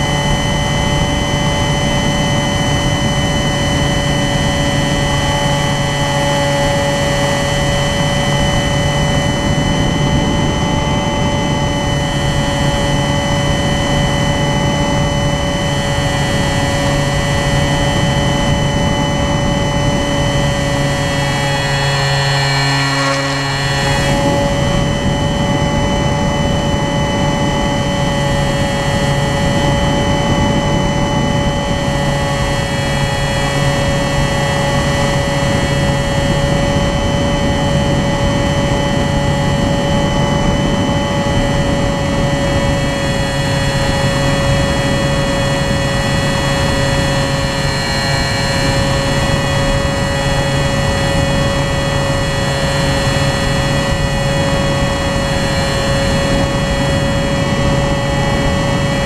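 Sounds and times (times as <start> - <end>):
model aircraft motor whine: 0.0 - 59.0.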